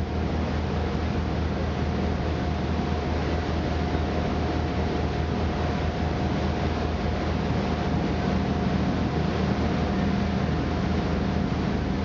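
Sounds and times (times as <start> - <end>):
boat engine drone: 0.0 - 12.0
water and wind hiss: 0.0 - 12.0.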